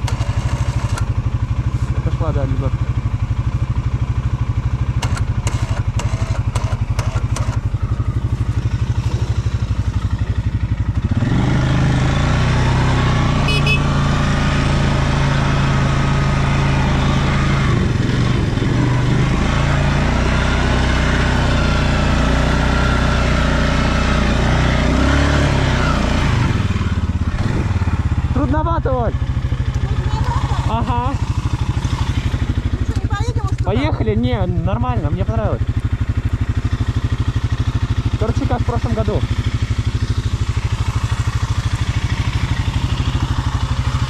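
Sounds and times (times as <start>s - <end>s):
quad engine labouring in snow: 0.0s - 44.0s.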